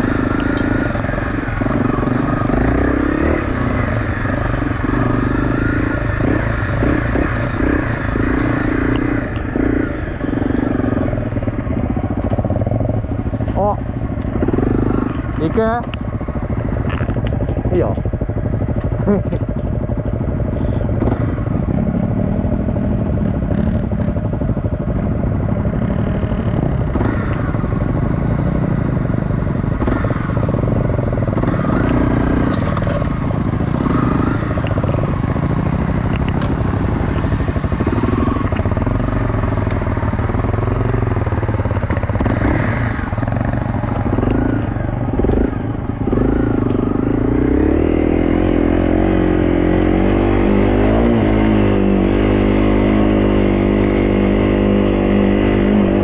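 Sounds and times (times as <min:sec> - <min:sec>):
dirt bike engine revving: 0:00.0 - 0:19.5, 0:20.2 - 0:56.0.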